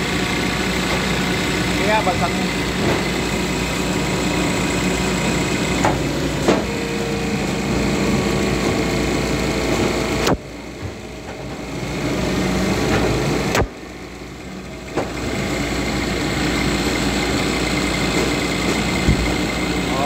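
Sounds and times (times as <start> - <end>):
machine motor humming: 0.0 - 20.0.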